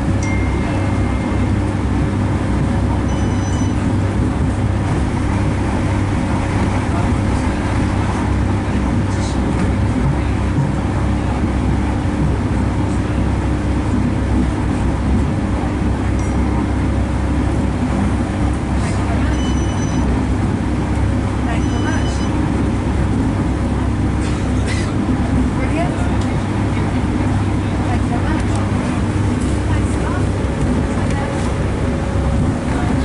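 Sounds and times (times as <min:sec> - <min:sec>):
diesel train engine drone: 0:00.0 - 0:33.0
train wheels rumbling on track: 0:00.0 - 0:33.0.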